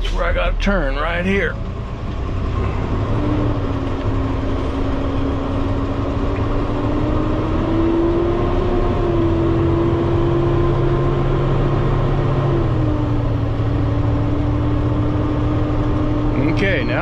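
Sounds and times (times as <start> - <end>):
truck diesel engine from inside cab: 0.0 - 17.0.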